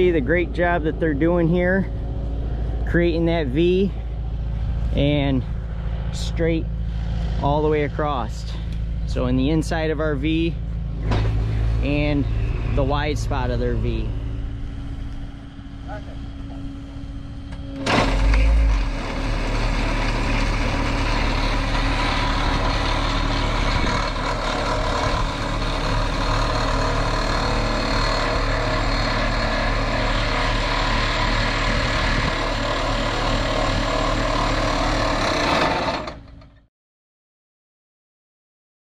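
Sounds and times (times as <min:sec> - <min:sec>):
diesel engine running: 0:00.0 - 0:36.7.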